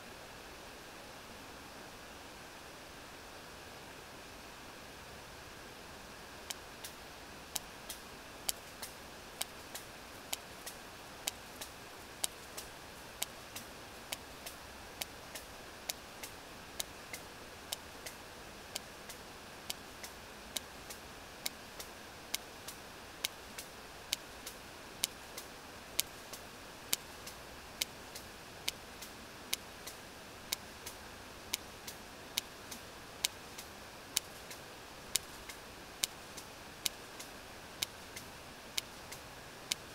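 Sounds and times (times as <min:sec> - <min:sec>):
steady hydrophone hiss: 0:00.0 - 0:39.9.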